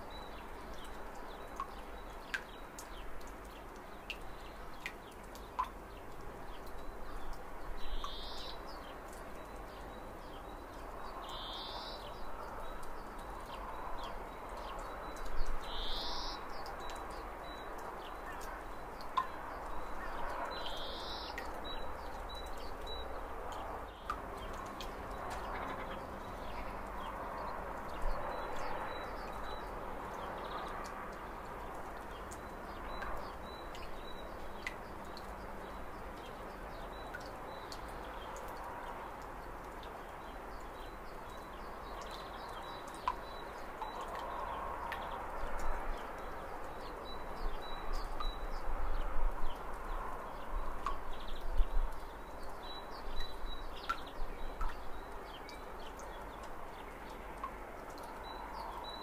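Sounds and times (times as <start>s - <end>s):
soft steady hiss: 0.0s - 59.0s.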